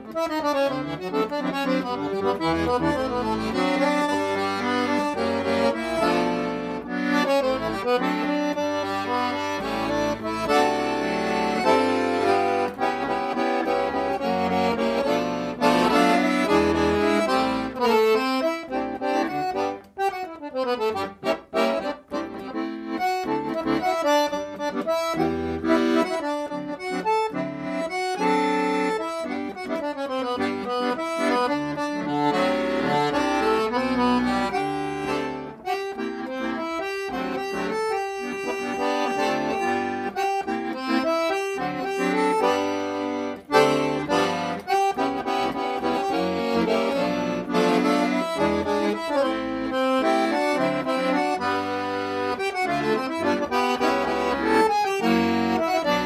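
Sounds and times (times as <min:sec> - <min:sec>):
busy instrumental music: 0:00.0 - 0:56.0.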